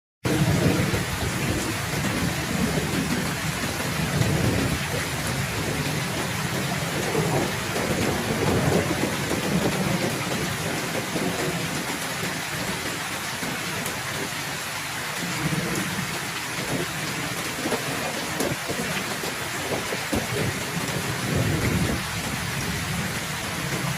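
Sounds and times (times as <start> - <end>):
heavy steady rain: 0.2 - 23.9
low rolling thunder: 0.3 - 14.4, 15.2 - 23.9.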